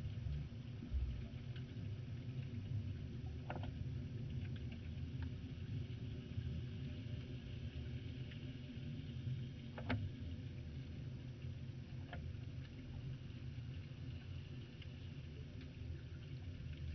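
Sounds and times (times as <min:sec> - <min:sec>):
faint clicks and crackles: 0:00.0 - 0:16.9
muffled underwater water rumble: 0:00.0 - 0:16.9.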